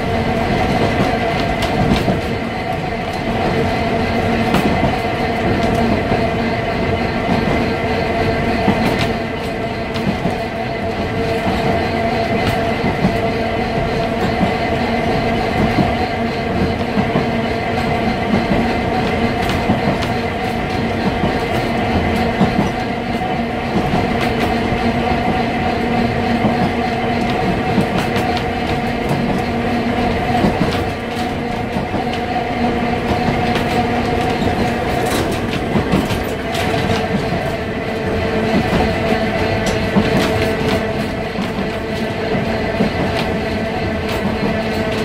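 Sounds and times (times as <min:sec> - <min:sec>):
tram motor hum: 0:00.0 - 0:45.0
wheels clicking over rail joints: 0:00.0 - 0:45.0.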